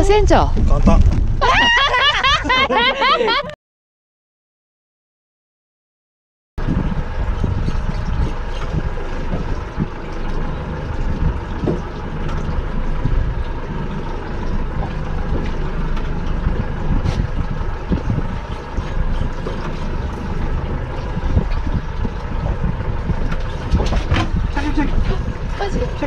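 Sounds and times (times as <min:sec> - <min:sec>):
boat engine idling: 0:00.0 - 0:03.6, 0:06.6 - 0:26.0.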